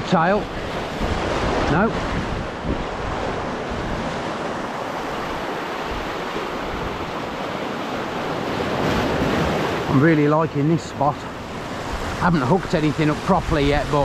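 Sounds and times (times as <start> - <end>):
waves washing over rocks: 0.0 - 14.0.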